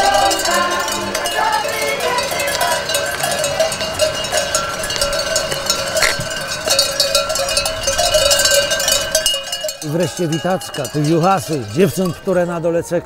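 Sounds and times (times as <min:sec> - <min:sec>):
sheep bells jangling: 0:00.0 - 0:13.0.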